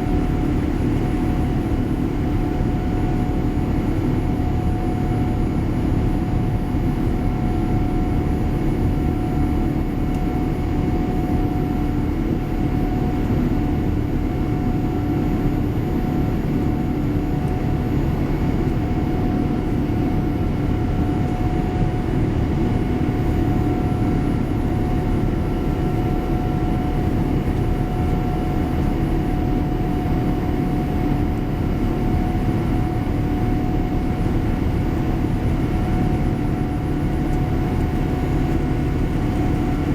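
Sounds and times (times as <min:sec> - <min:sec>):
aircraft cabin engine rush: 0:00.0 - 0:39.9.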